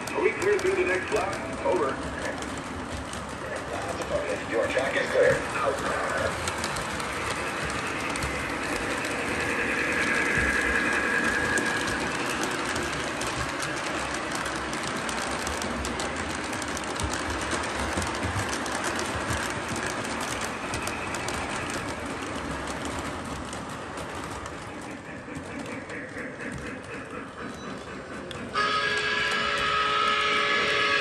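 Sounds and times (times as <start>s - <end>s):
model train wheels clicking: 0.0s - 31.0s.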